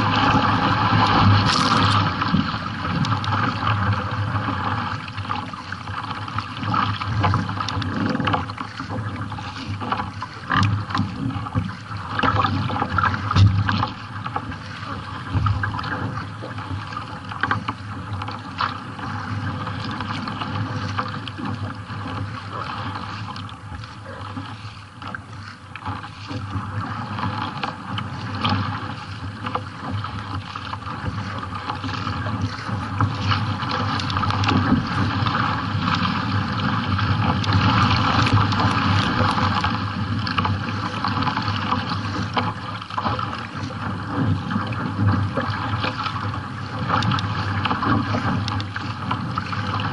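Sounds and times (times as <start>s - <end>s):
water splashing along kayak hull: 0.0s - 49.9s.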